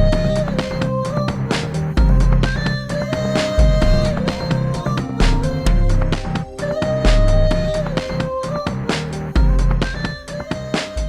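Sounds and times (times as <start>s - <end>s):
held synth notes: 0.0s - 10.7s
drum beat with heavy bass: 0.0s - 11.0s.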